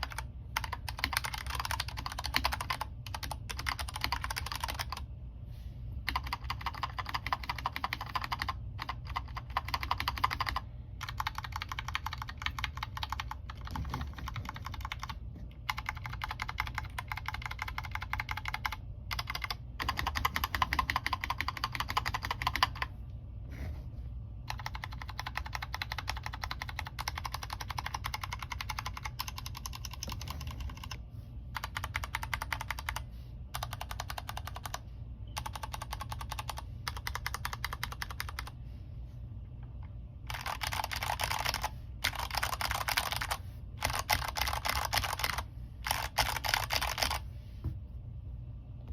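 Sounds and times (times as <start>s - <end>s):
mechanical keyboard typing: 0.0s - 5.1s, 6.0s - 22.9s, 24.4s - 34.8s, 35.4s - 38.6s, 40.2s - 47.2s.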